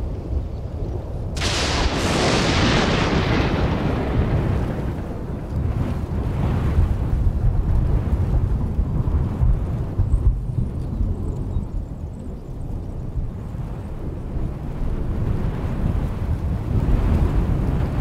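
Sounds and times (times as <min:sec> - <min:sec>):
thunder crack and rumble: 0:00.0 - 0:18.0.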